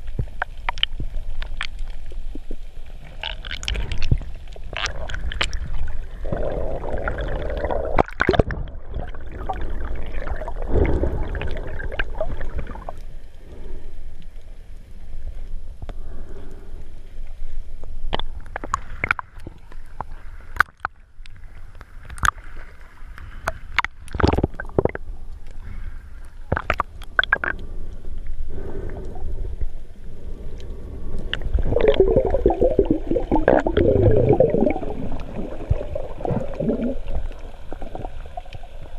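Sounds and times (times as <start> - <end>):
underwater gurgling and sloshing: 0.0 - 38.9.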